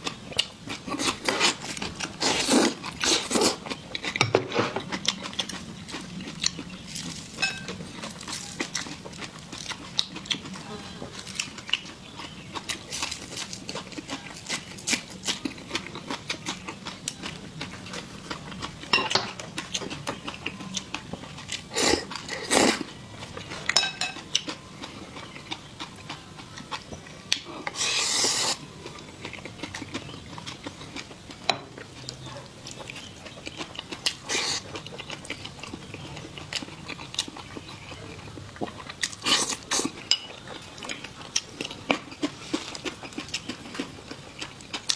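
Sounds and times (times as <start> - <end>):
chewing: 0.0 - 44.9.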